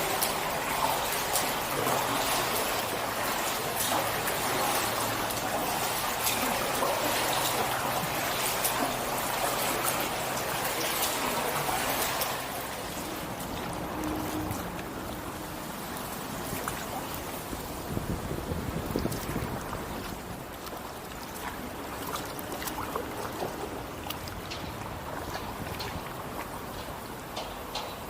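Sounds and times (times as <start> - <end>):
paddle dipping and dripping: 0.0 - 28.0
water trickling and splashing: 0.0 - 28.0.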